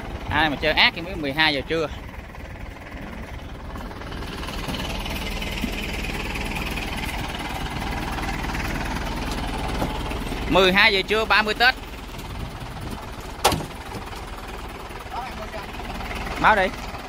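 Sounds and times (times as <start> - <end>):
fire engine engine rumbling: 0.0 - 17.0.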